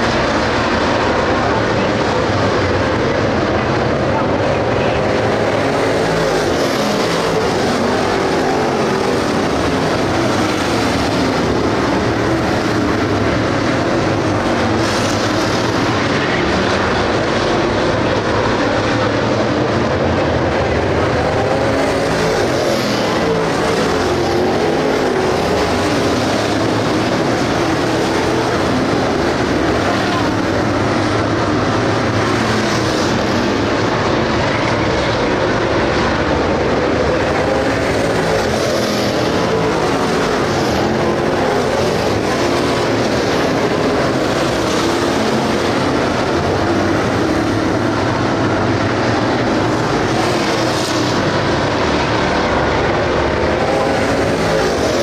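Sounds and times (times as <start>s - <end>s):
race car engines racing: 0.0s - 55.0s.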